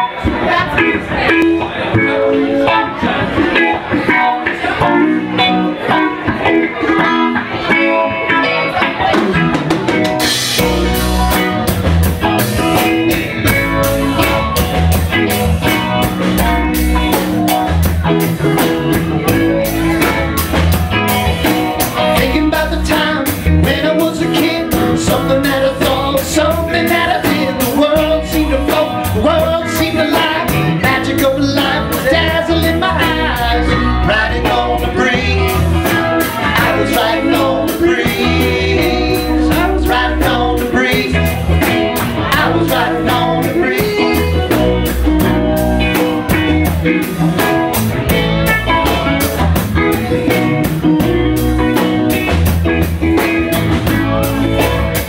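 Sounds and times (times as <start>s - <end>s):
bass line: 0.0s - 55.0s
electric guitar: 0.0s - 55.0s
rock band playing: 0.0s - 55.0s
drum kit: 0.2s - 55.0s.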